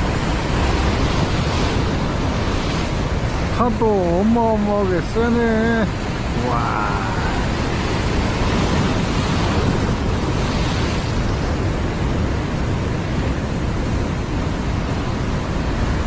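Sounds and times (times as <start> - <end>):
heavy ocean surf breaking: 0.0 - 16.0.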